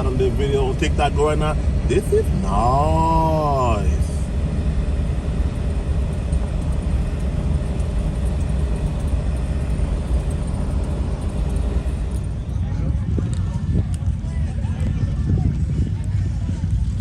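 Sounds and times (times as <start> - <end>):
car driving slowly: 0.0 - 17.0.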